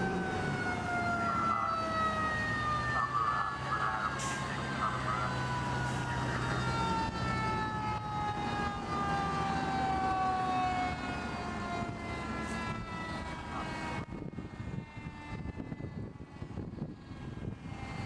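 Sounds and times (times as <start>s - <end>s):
fire truck siren winding down: 0.0s - 18.0s
rumble of engines and traffic: 0.0s - 18.0s.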